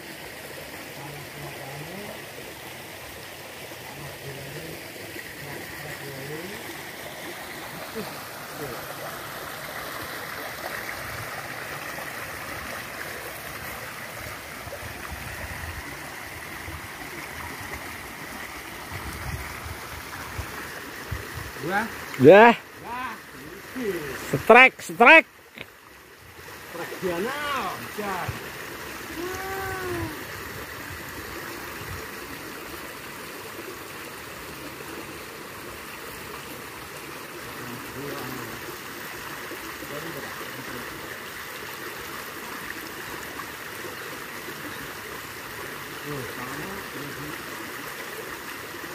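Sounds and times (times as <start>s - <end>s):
creek water rushing: 0.0s - 48.9s.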